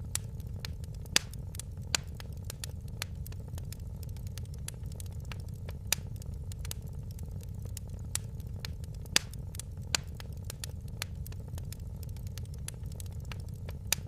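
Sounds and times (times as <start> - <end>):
low rumble of flames: 0.0 - 14.0
sharp pops and snaps: 0.0 - 14.0
wood fire crackling: 0.0 - 14.0.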